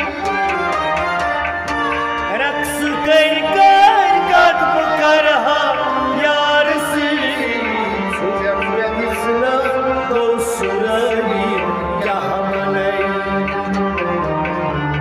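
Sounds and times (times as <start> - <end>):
harmonium chords: 0.0 - 15.0
men singing: 2.3 - 14.8.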